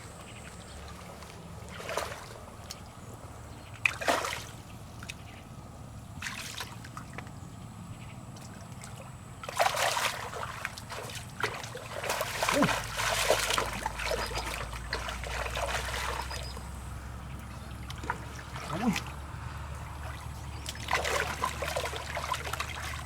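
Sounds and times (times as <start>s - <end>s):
splashing in shallow water: 0.0s - 5.4s, 6.0s - 7.4s, 8.3s - 23.0s.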